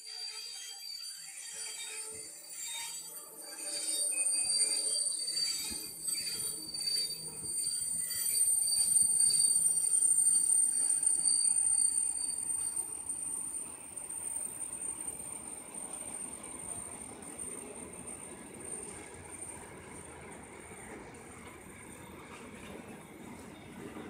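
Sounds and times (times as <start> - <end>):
train wheels squealing: 0.0 - 24.0.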